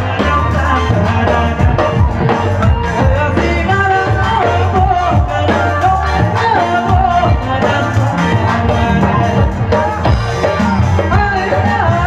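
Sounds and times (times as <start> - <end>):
bass guitar: 0.0 - 12.0
keyboard: 0.0 - 12.0
man singing: 0.0 - 12.0
steady drum beat: 0.0 - 12.0.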